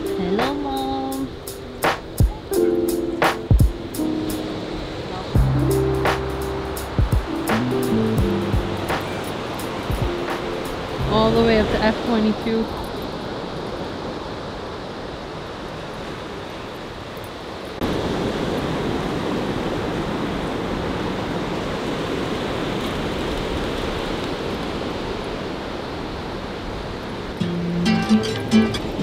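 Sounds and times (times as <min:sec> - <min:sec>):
ocean surf washing up beach: 0:00.0 - 0:29.0.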